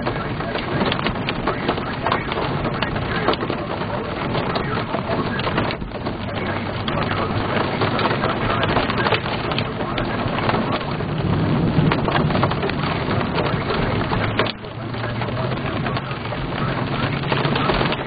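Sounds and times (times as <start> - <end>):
rain pelting car windshield: 0.0 - 18.0
tyres on wet road: 0.0 - 18.0.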